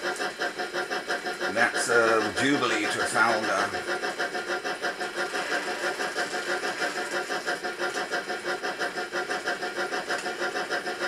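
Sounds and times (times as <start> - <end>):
model train mechanical whirr: 0.0 - 11.0.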